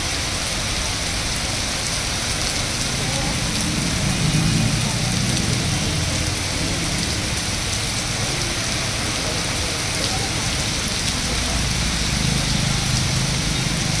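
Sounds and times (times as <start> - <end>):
car passing on flooded road: 0.0 - 14.0
heavy rain on road: 0.0 - 14.0.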